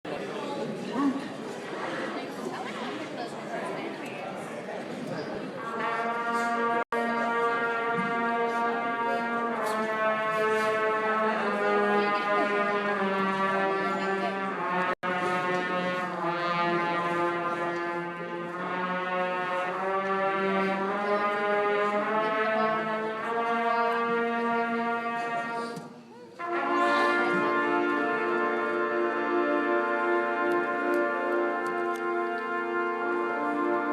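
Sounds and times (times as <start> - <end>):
brass band sustained chords: 5.6 - 25.8, 26.4 - 33.9.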